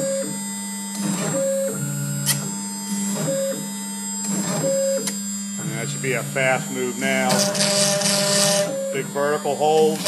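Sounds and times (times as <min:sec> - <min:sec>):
spindle humming: 0:00.0 - 0:10.0.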